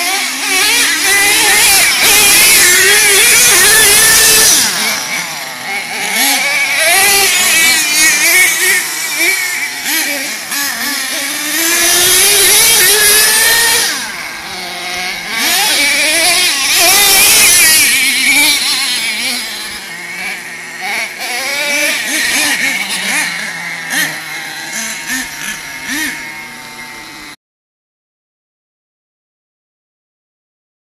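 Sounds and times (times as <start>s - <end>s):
small engines revving: 0.0s - 27.4s.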